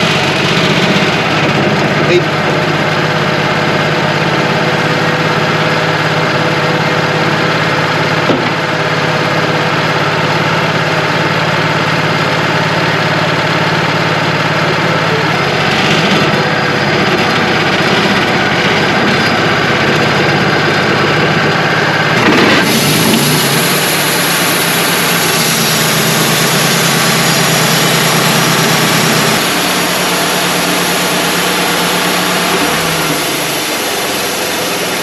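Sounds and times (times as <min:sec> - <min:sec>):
sawmill engine and bandsaw: 0:00.0 - 0:35.0.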